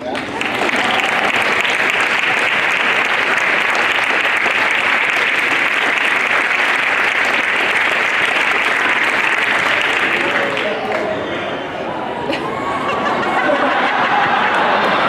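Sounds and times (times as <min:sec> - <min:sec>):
children applauding: 0:00.0 - 0:11.2, 0:12.4 - 0:15.0.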